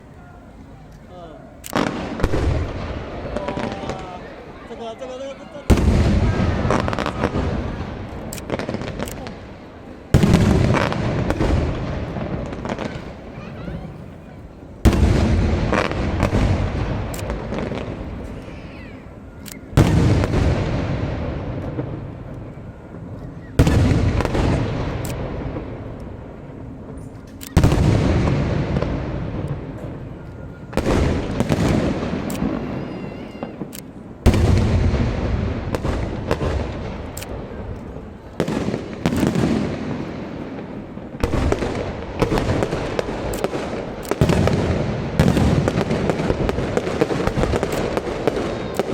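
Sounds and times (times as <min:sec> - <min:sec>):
fireworks crackling: 0:00.0 - 0:48.9
fireworks booming: 0:01.7 - 0:48.9.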